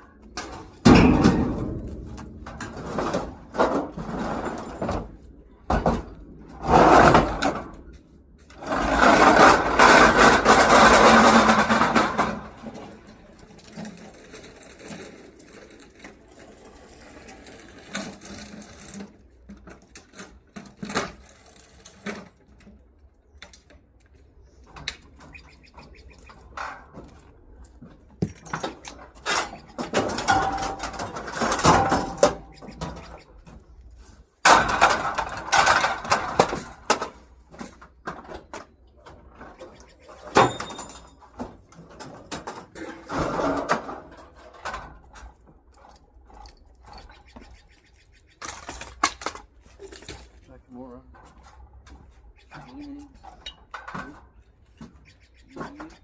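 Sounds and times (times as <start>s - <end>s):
objects scraping and rattling: 0.1s - 56.0s.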